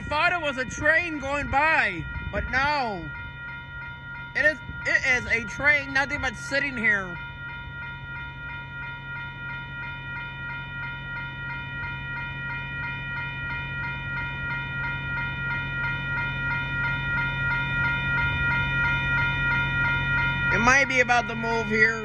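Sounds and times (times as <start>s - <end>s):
railroad crossing bells ringing: 0.0s - 22.0s.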